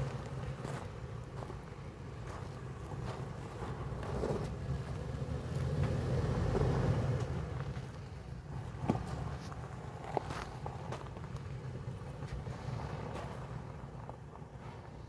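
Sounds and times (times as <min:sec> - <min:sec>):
engine running at crawl: 0:00.0 - 0:15.0
tyres crunching over gravel: 0:00.0 - 0:15.0.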